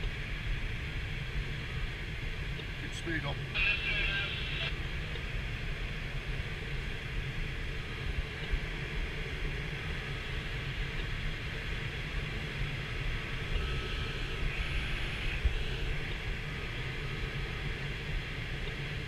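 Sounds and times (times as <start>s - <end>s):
airflow rush in cockpit: 0.0s - 19.0s.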